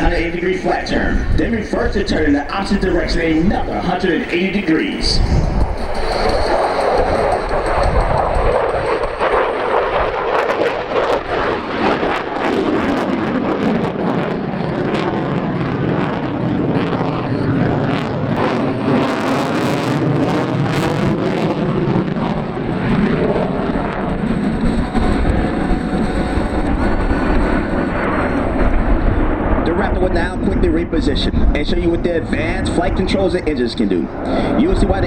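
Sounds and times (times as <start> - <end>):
harsh crackling jet noise: 0.0 - 14.6, 18.0 - 35.0
fighter jet engine roar: 0.0 - 35.0.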